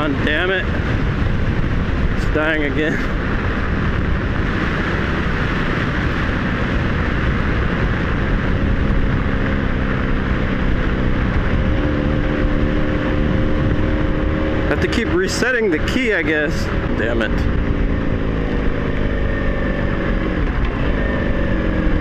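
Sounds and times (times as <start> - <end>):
low engine hum: 0.0 - 22.0
wind rush on microphone: 0.0 - 22.0.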